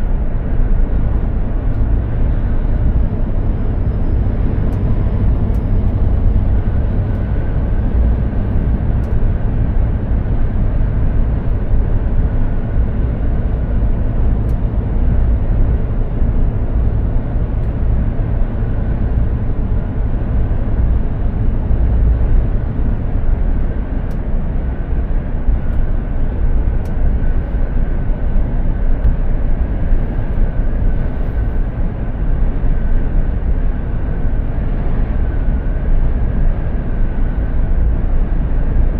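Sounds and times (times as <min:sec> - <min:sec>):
truck engine and tyres droning: 0:00.0 - 0:38.9.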